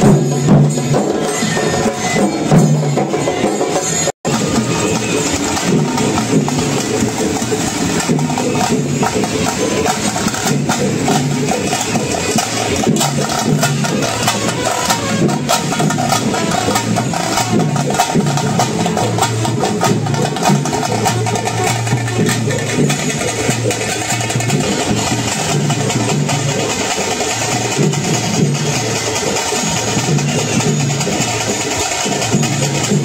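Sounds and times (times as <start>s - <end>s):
drum band playing: 0.0s - 33.0s.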